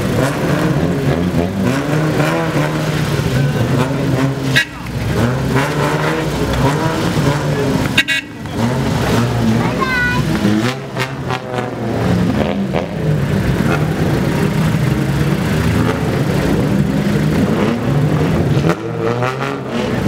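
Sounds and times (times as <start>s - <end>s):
car engines and exhausts: 0.0s - 20.0s.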